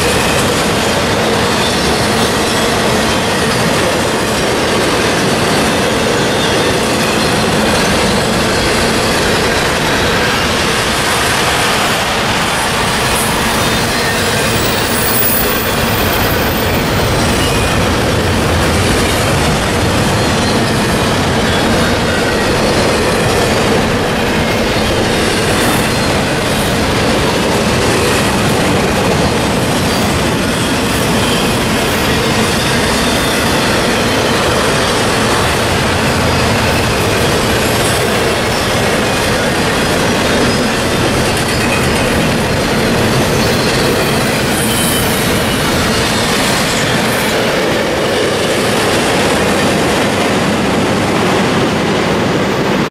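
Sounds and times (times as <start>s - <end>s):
freight train wheels rumbling on rail: 0.0s - 52.9s.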